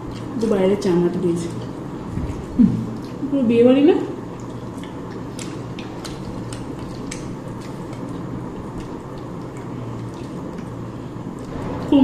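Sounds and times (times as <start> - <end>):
wet chewing sounds: 0.0 - 3.3, 4.2 - 11.9
low background hum: 0.0 - 12.0.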